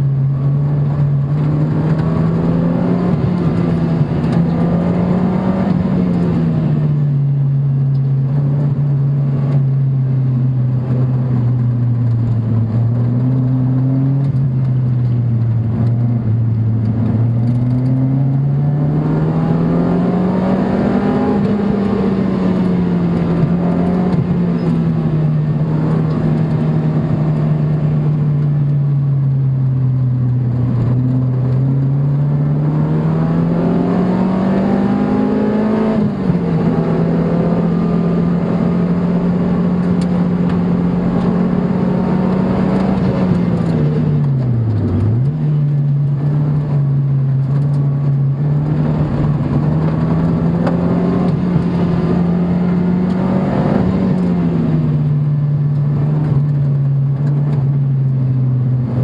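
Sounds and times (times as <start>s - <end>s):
car engine under load: 0.0s - 59.0s.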